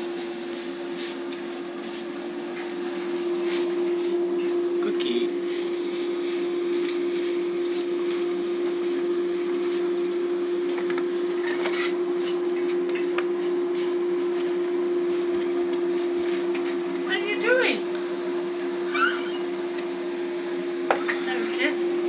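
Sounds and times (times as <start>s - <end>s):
refrigerator humming: 0.0s - 22.0s.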